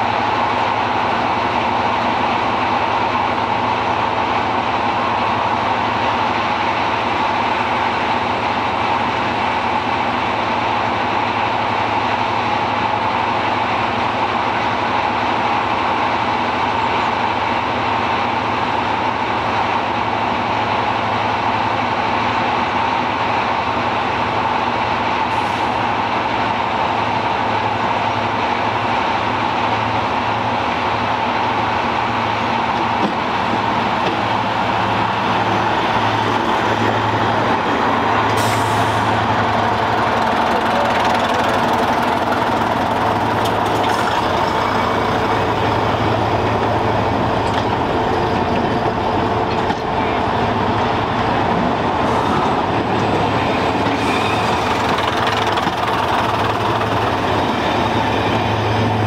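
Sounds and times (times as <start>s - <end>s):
diesel train engines running: 0.0s - 59.0s.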